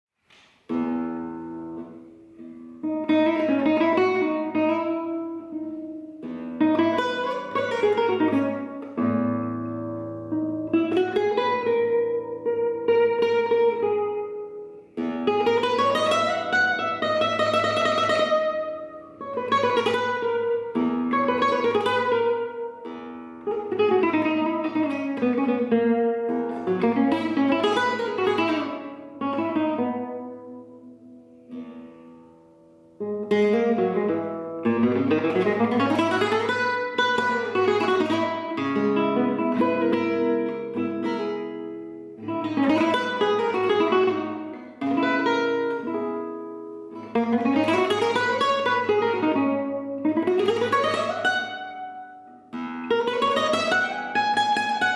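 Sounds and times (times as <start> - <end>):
solo flamenco guitar: 0.2 - 54.9.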